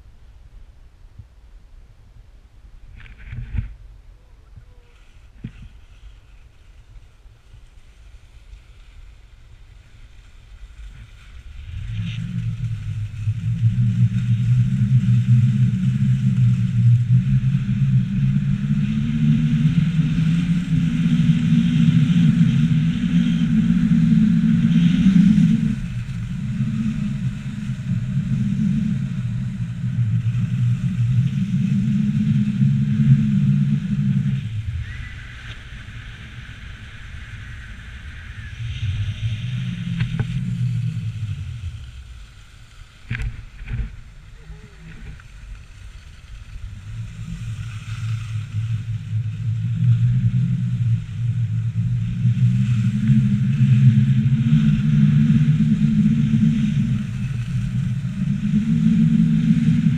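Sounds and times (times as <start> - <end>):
wind on microphone: 0.0 - 59.9
skis scraping over snow: 4.9 - 54.8, 55.8 - 59.9.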